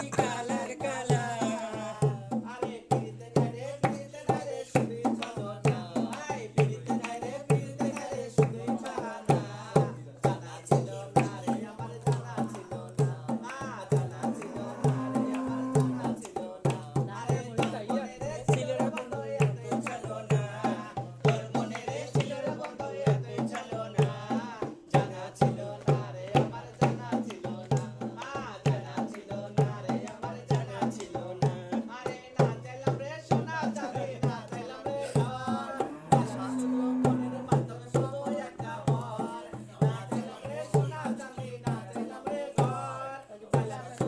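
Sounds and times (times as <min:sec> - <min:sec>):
hand drum played in quick rhythm: 0:00.0 - 0:44.0.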